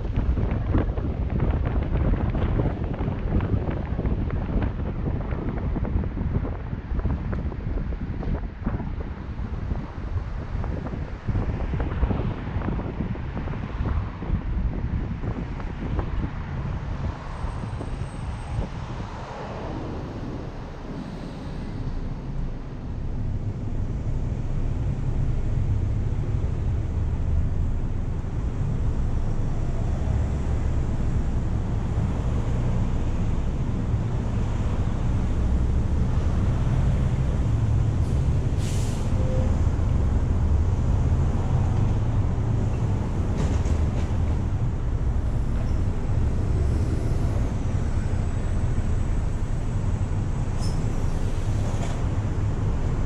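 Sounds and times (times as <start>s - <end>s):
idling traffic rumble: 0.0s - 53.0s.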